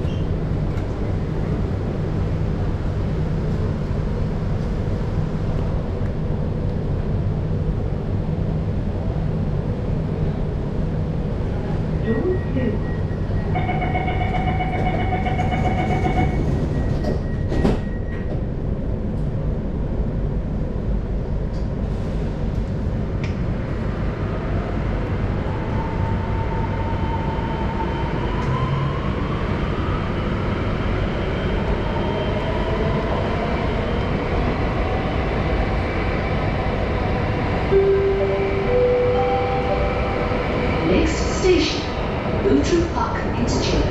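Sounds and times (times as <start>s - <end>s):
subway train rumbling: 0.0s - 43.9s.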